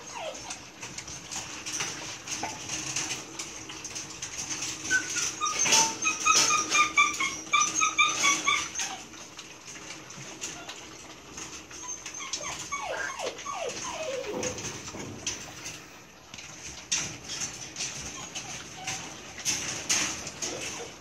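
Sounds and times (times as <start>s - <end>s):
puppies whimpering: 0.0s - 16.0s, 17.0s - 21.0s.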